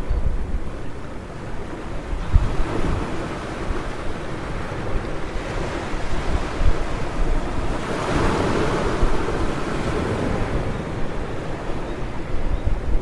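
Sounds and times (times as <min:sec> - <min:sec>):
wind buffeting microphone: 0:00.0 - 0:13.0
ocean surf breaking: 0:00.6 - 0:13.0.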